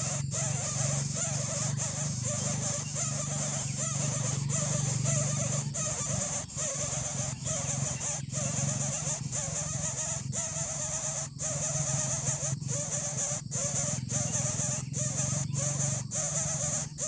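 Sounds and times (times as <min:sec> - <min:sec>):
nestlings begging calls: 0:00.0 - 0:17.0
steady high-pitched hiss: 0:00.0 - 0:17.0.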